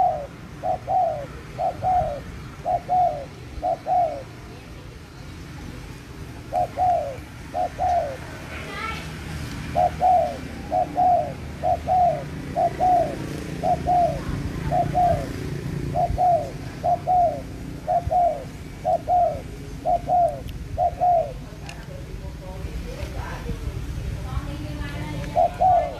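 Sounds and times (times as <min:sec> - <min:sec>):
dove cooing: 0:00.0 - 0:05.0, 0:06.3 - 0:09.0, 0:09.6 - 0:22.2, 0:25.0 - 0:25.9.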